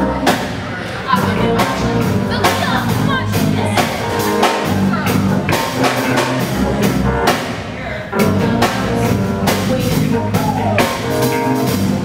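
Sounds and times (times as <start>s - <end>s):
drums: 0.0s - 12.0s
electric bass: 0.0s - 12.0s
keyboard: 0.0s - 12.0s.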